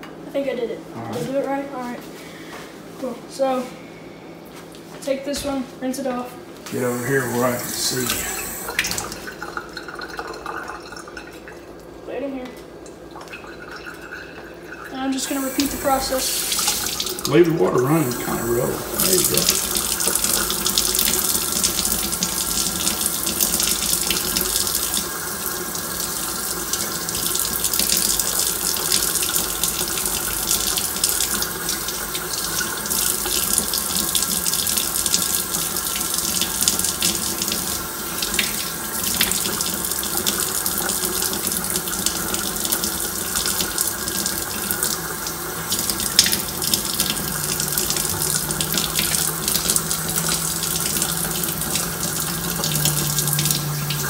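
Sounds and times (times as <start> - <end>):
faucet running into steel sink: 6.7 - 11.6, 13.2 - 54.0.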